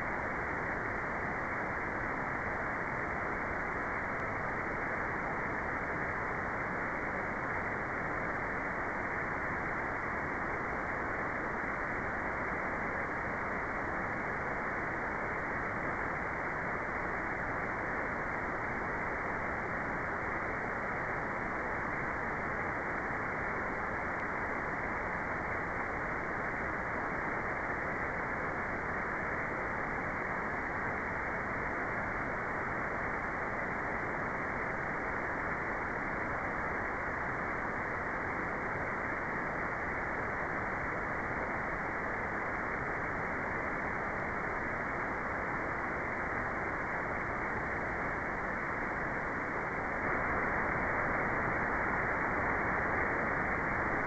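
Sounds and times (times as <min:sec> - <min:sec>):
muffled white noise: 0:00.0 - 0:54.0.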